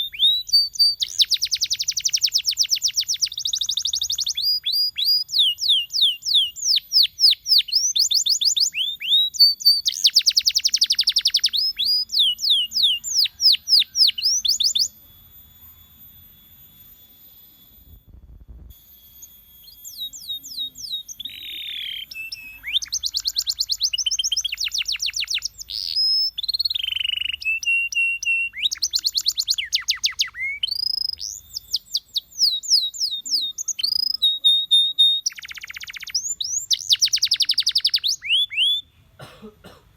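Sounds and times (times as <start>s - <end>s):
canary singing: 0.0s - 18.3s, 19.1s - 39.1s.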